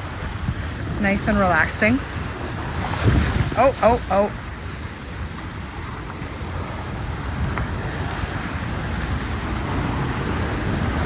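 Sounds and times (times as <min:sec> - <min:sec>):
water rushing along slide: 0:00.0 - 0:11.0
wind buffeting microphone: 0:00.0 - 0:11.0.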